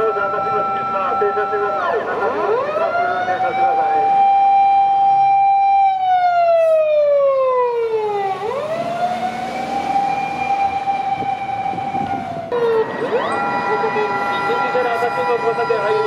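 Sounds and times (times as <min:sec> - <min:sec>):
fire engine siren wailing: 0:00.0 - 0:16.0.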